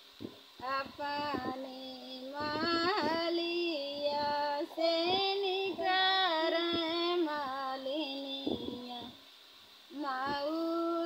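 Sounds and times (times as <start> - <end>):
woman singing unaccompanied: 0.6 - 9.2, 9.9 - 11.0.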